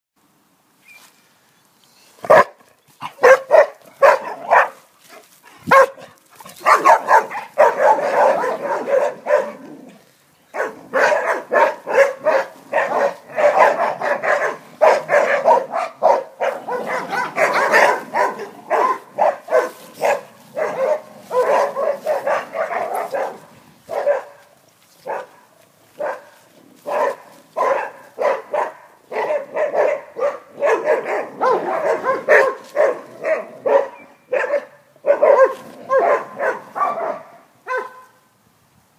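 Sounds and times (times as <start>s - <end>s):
dogs barking: 2.2s - 9.9s, 10.5s - 38.2s.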